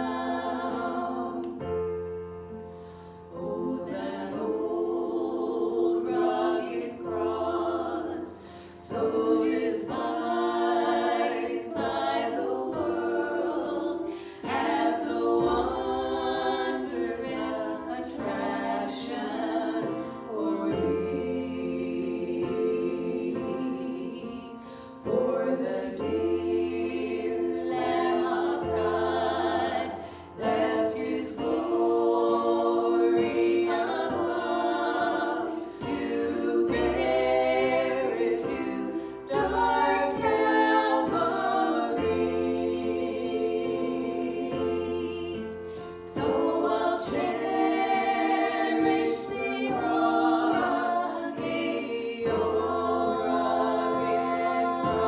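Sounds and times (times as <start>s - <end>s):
voices singing gospel song: 0.0s - 55.0s.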